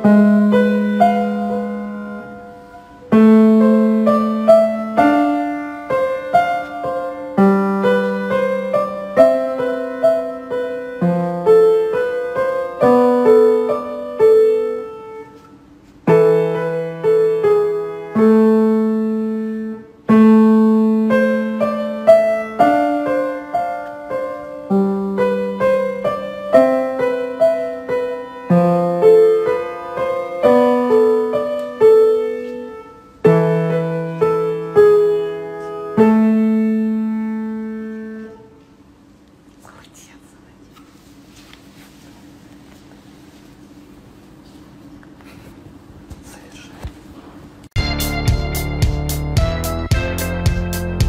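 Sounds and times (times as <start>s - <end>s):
slow piano melody: 0.0s - 39.2s, 47.6s - 51.0s.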